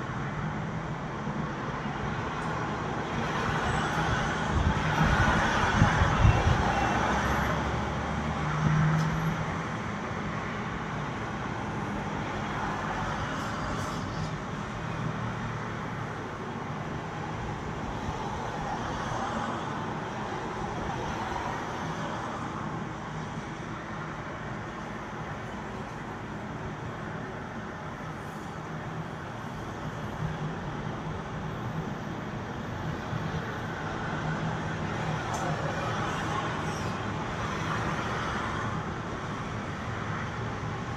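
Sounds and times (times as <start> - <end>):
street traffic: 0.0 - 40.9.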